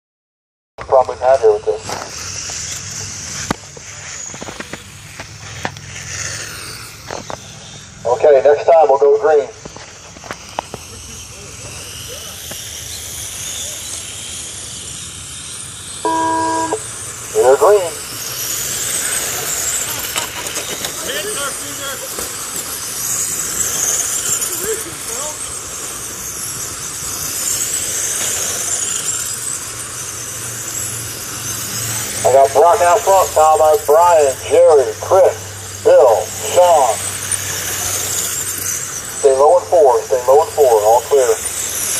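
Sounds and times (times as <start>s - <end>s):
rc car motor whine: 1.8s - 41.9s.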